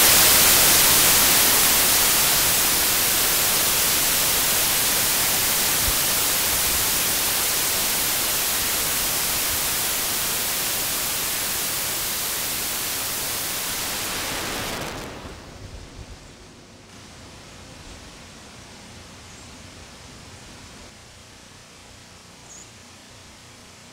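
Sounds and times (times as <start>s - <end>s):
static hiss: 0.0s - 23.9s.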